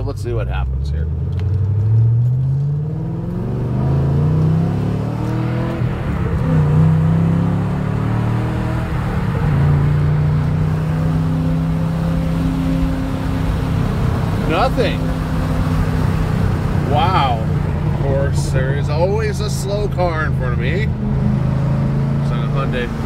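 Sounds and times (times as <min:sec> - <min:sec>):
car engine pulling: 0:00.0 - 0:23.0
road and wind noise: 0:00.0 - 0:23.0.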